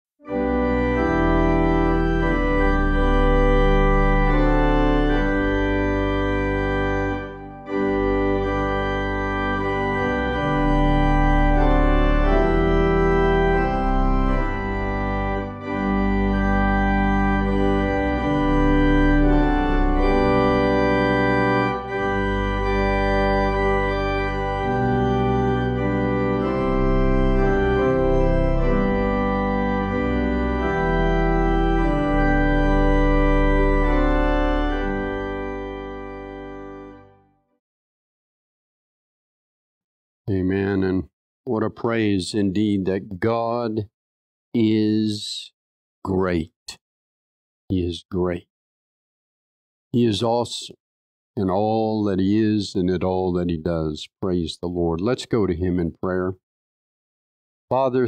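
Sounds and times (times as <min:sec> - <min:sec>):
organ chords: 0:00.2 - 0:37.5, 0:40.3 - 0:43.9, 0:44.6 - 0:46.8, 0:47.7 - 0:48.4, 0:50.0 - 0:50.8, 0:51.4 - 0:56.4, 0:57.7 - 0:58.0.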